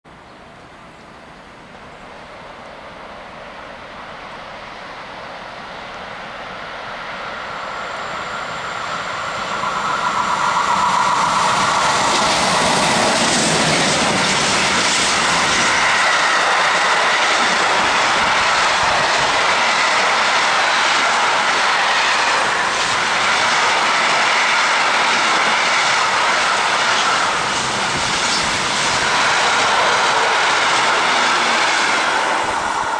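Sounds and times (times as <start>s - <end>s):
electric locomotive passing: 0.4s - 32.9s.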